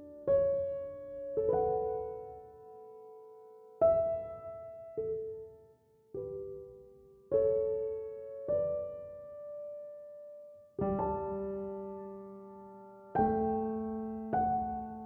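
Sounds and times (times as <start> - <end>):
slow soft piano: 0.0 - 15.0.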